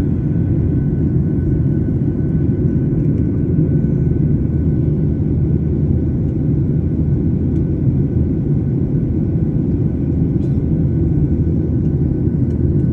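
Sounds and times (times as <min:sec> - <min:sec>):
jet engine drone in flight: 0:00.0 - 0:12.9.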